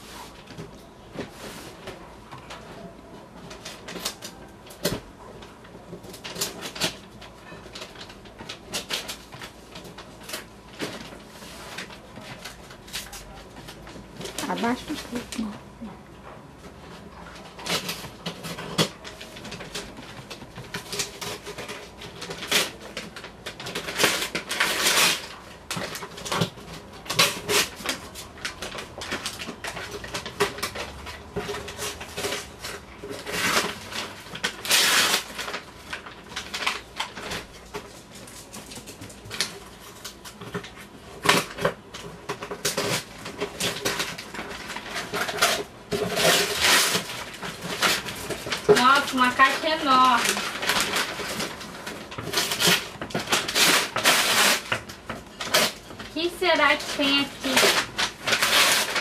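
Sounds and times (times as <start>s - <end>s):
packaging tearing and crinkling: 3.4s - 15.5s, 17.3s - 59.0s.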